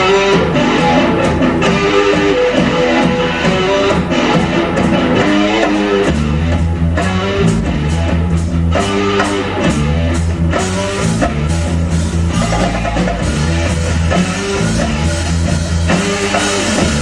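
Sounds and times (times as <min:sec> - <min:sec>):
bass notes: 0:00.0 - 0:17.0
drum kit beat: 0:00.0 - 0:17.0
guitar: 0:00.0 - 0:17.0.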